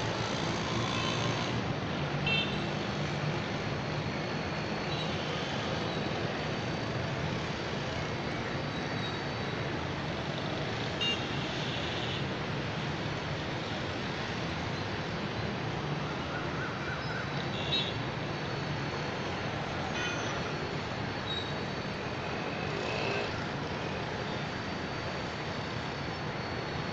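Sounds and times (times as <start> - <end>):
distant road traffic: 0.0 - 26.9.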